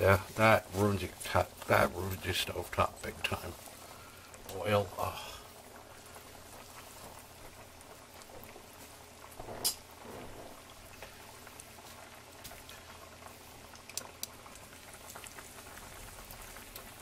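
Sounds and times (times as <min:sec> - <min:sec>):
cutlet sizzling in hot oil: 0:00.0 - 0:17.0
oil popping: 0:00.1 - 0:17.0.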